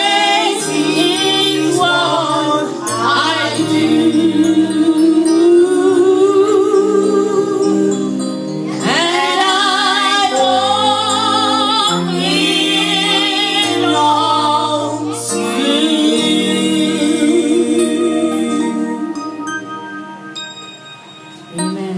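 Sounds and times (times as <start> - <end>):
woman singing gospel: 0.0 - 8.0, 8.8 - 19.2, 21.5 - 21.9
instrumental accompaniment: 0.0 - 21.9.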